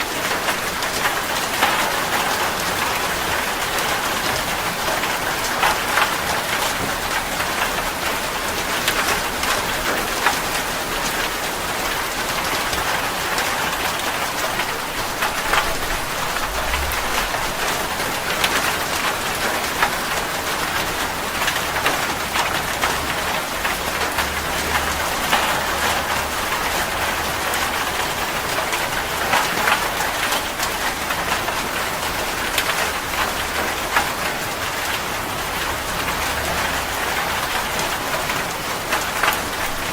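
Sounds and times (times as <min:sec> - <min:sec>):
raindrops ticking on hard surface: 0:00.0 - 0:39.9
steady rain hiss: 0:00.0 - 0:39.9.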